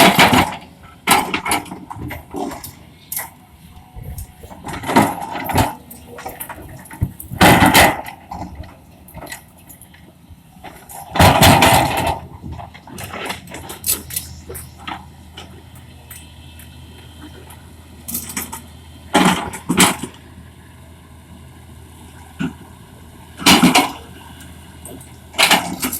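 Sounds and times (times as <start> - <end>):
excavator engine running: 0.0 - 25.9.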